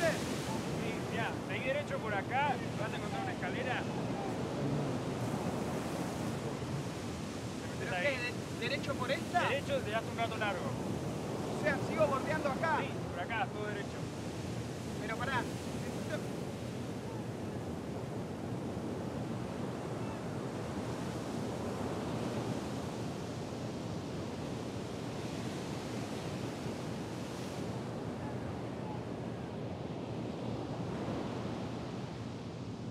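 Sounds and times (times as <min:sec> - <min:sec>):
waves breaking: 0:00.0 - 0:32.9.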